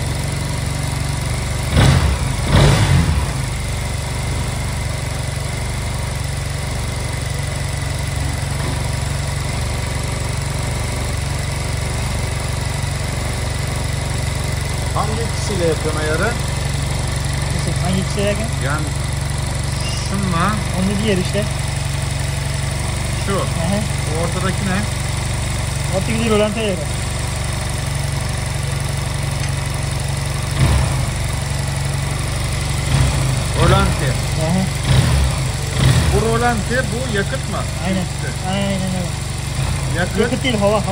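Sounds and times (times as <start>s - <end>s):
scooter engine idling: 0.0s - 40.9s.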